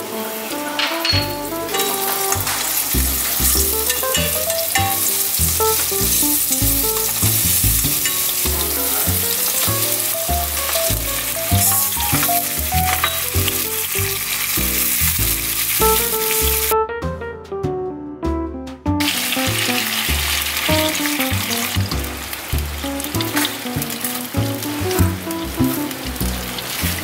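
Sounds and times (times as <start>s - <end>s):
food sizzling in hot oil: 0.0s - 16.7s, 19.0s - 27.0s
background music with bass line: 0.6s - 27.0s.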